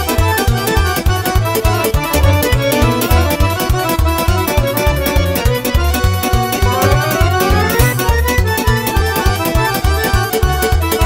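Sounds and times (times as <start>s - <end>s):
fast folk party music: 0.0s - 11.0s.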